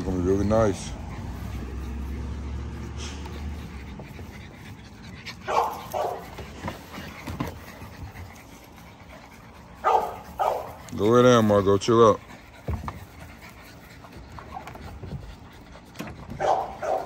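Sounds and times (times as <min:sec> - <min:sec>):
puppies panting: 0:00.0 - 0:17.0.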